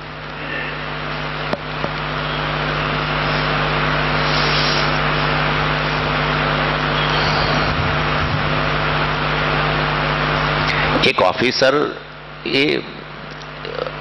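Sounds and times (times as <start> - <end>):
rushing noise with low hum: 0.0 - 14.0.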